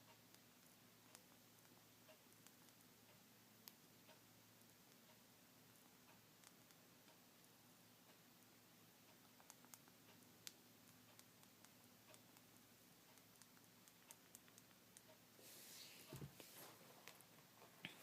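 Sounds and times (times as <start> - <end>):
faint ticks and clicks: 0.0 - 15.4, 16.1 - 18.0.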